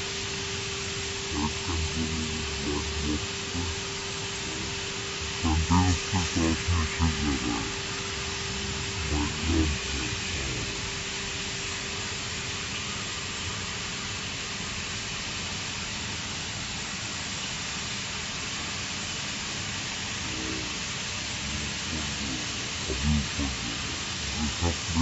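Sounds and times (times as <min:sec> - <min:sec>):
cutting torch hissing: 0:00.0 - 0:17.4, 0:18.0 - 0:25.0
faint steady hum: 0:00.0 - 0:25.0.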